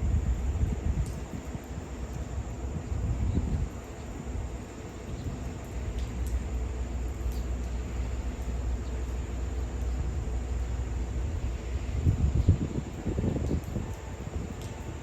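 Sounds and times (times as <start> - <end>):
freight train rumbling: 2.8 - 15.0.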